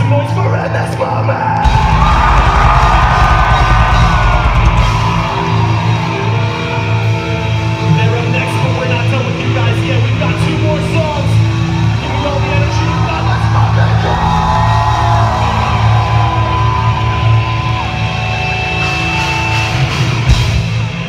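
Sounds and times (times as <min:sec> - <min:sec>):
metalcore band playing: 0:01.6 - 0:21.0.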